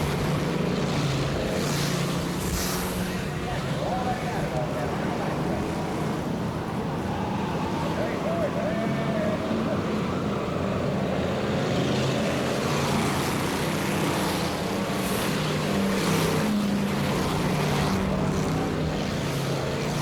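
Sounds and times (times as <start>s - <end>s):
race car engines running: 0.0s - 20.0s.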